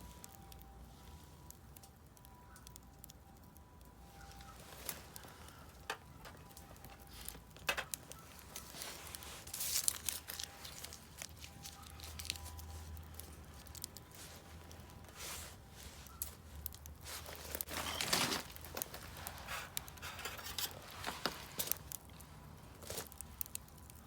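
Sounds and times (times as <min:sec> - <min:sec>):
fire pops and snaps: 0:00.0 - 0:24.0
wood fire crackling: 0:00.0 - 0:24.0.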